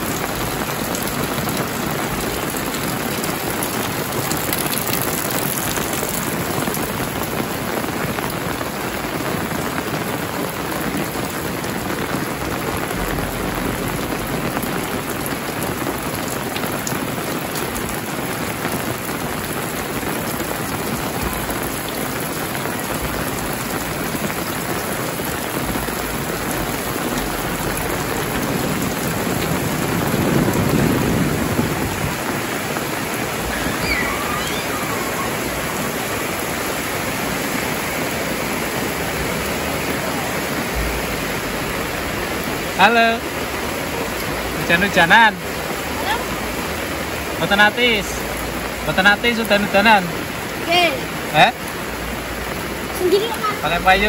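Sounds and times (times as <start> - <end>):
heavy rain on metal roofs: 0.0 - 54.0.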